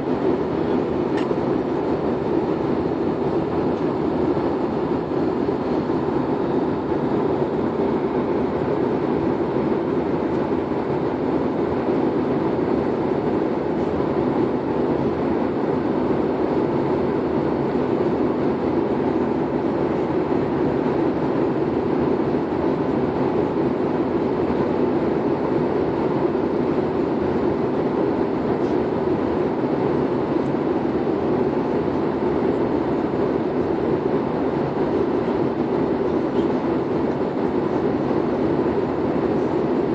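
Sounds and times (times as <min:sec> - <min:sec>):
airliner cabin engine rush: 0:00.0 - 0:39.9.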